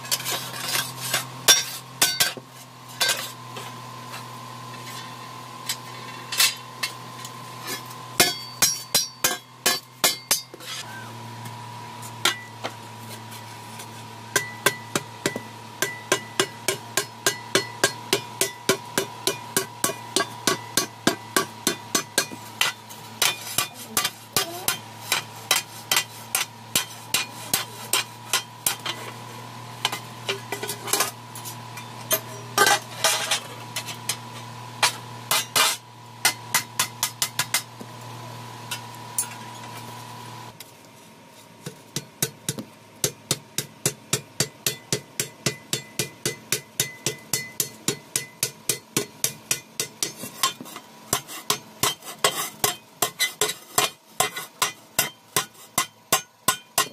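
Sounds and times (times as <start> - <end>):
hammer striking hot iron on anvil: 0.0 - 2.4, 3.0 - 12.8, 13.8 - 37.9, 41.6 - 56.9
steady hum: 0.0 - 56.9.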